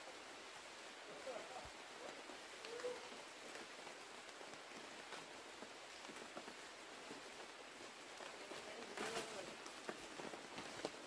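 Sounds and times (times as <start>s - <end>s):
light ticks and rustles: 0.0s - 11.0s
soft forest hiss: 0.0s - 11.0s.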